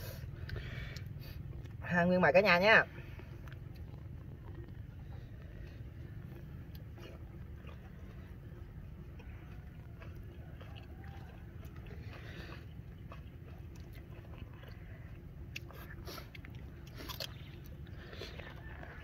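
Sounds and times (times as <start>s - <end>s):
steady low rumble: 0.0s - 19.0s
person biting and chewing: 3.1s - 19.0s.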